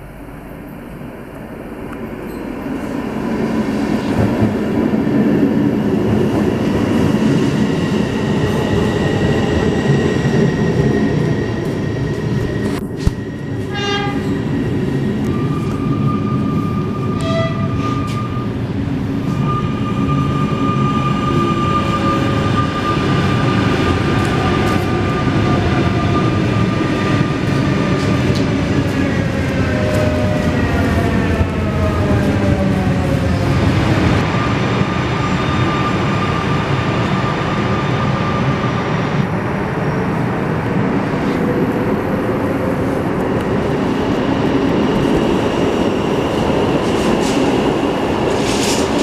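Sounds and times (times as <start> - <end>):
electric train rolling past: 0.0 - 49.0.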